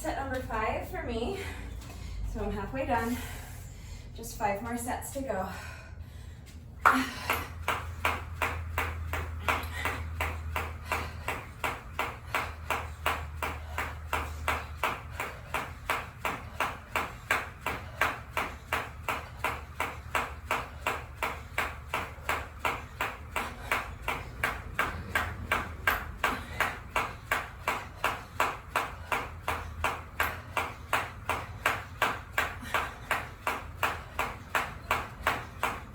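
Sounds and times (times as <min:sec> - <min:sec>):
jump rope slapping floor: 0:06.8 - 0:35.9
feet landing: 0:06.9 - 0:35.9.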